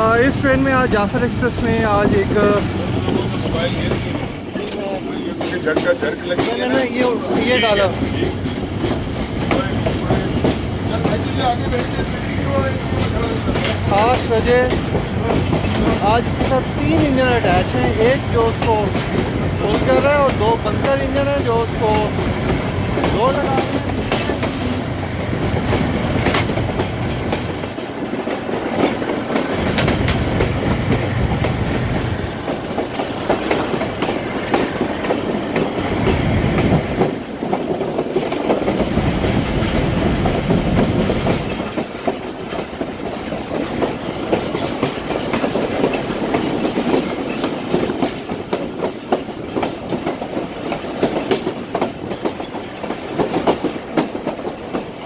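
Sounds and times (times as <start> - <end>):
train wheels clattering: 0.0 - 55.0.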